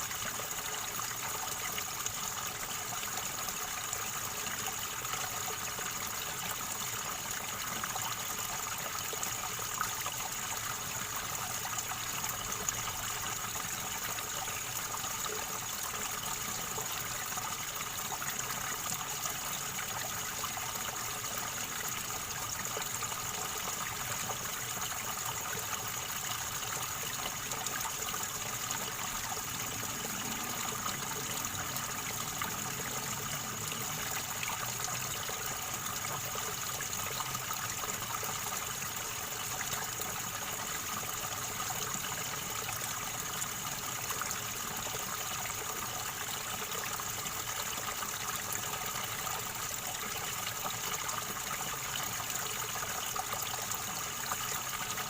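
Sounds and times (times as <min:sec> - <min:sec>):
river water gurgling: 0:00.0 - 0:55.0.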